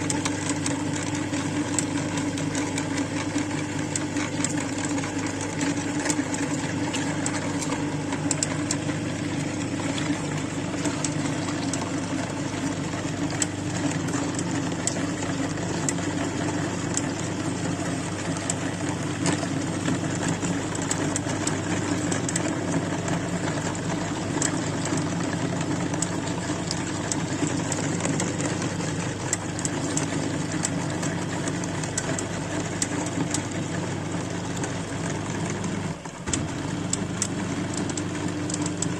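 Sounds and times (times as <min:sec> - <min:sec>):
electric meat grinder humming: 0:00.0 - 0:38.9.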